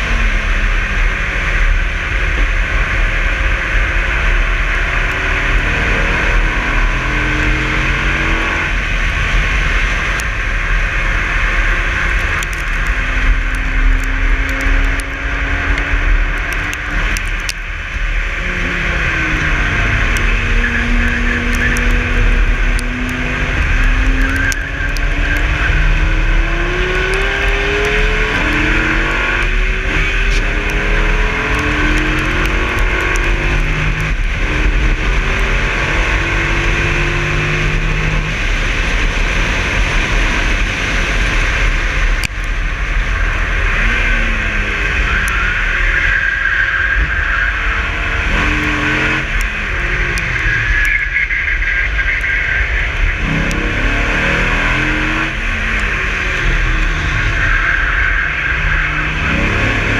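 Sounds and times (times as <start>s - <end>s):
car engine accelerating hard: 0.0s - 59.9s
wind and road rush: 0.0s - 59.9s.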